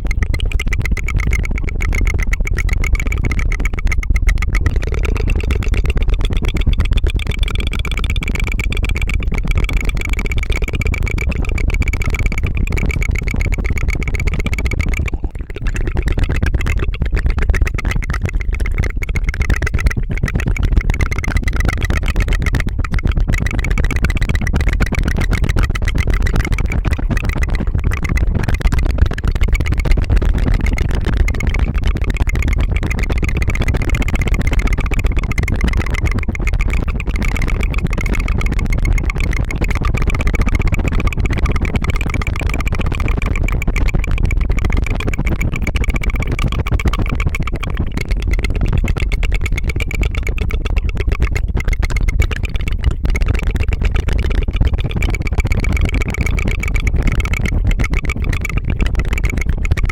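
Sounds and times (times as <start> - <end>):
rapid tongue fluttering trill: 0.0 - 59.9.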